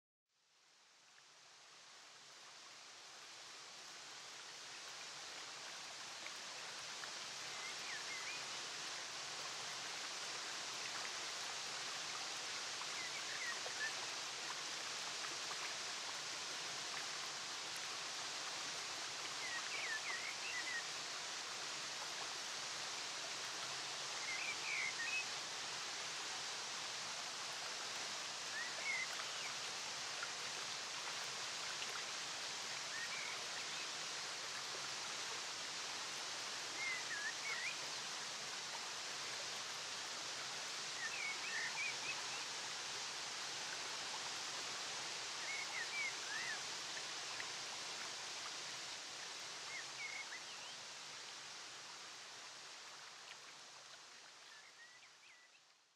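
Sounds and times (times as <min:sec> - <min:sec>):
falling water rushing: 0:01.7 - 0:55.0.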